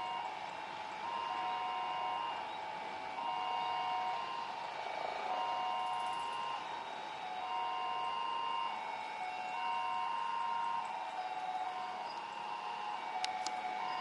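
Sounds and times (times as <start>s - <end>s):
two-tone electronic warning signal: 1.1s - 2.5s, 3.2s - 4.6s, 5.2s - 14.0s.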